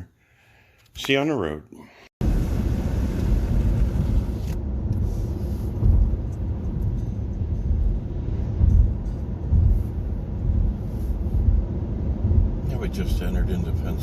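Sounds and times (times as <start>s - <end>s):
road and tyre rumble: 2.2s - 14.0s.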